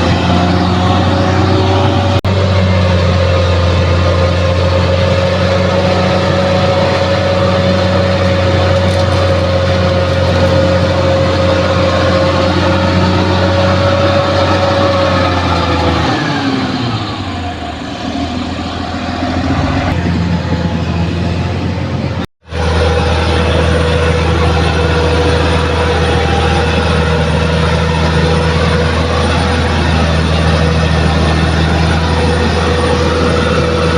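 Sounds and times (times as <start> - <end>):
bulldozer diesel engine running: 0.0 - 33.9
steady whine: 0.0 - 33.9.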